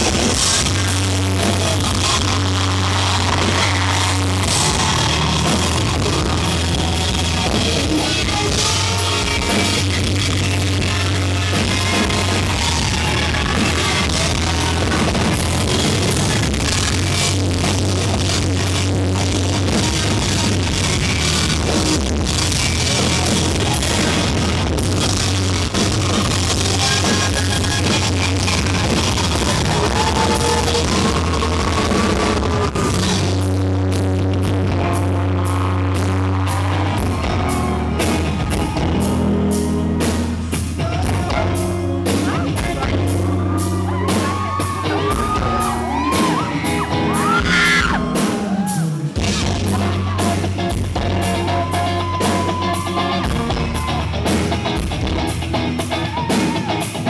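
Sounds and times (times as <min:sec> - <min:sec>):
bass line: 0:00.0 - 0:57.0
drum kit: 0:00.0 - 0:57.0
electric guitar: 0:00.0 - 0:57.0.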